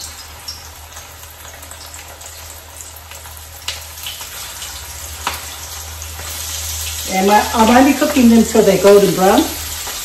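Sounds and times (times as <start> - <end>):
oysters sizzling in hot oil: 0.0 - 10.0.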